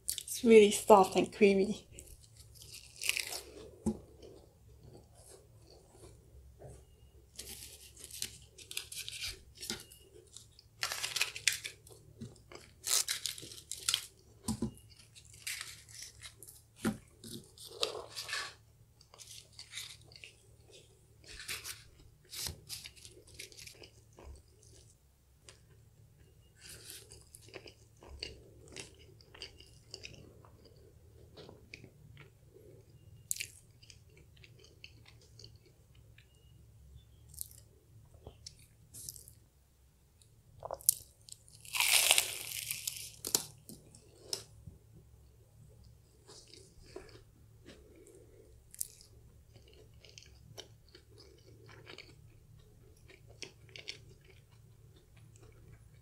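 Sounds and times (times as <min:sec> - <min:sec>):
chewing flaky pastry: 0:00.0 - 0:39.5, 0:40.2 - 0:56.0.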